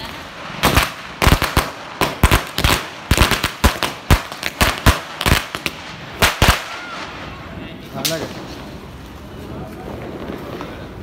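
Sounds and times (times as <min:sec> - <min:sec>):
firecrackers bursting: 0:00.0 - 0:11.0.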